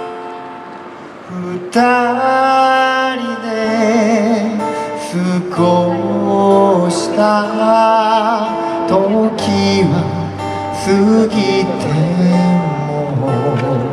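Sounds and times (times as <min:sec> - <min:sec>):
acoustic guitar strumming: 0:00.0 - 0:13.9
man singing: 0:01.3 - 0:13.9.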